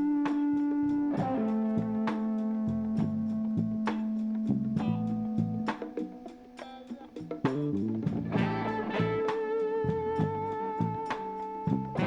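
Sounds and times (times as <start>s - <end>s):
groovy background music: 1.1s - 12.0s.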